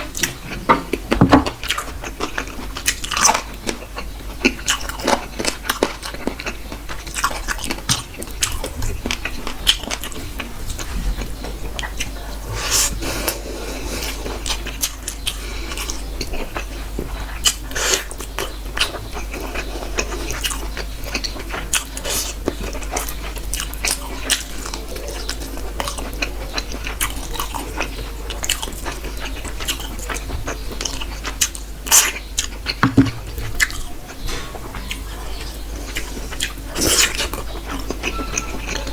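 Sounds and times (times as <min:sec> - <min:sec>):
person chewing with wet smacks: 0:00.0 - 0:12.2, 0:12.8 - 0:34.2, 0:34.8 - 0:38.9.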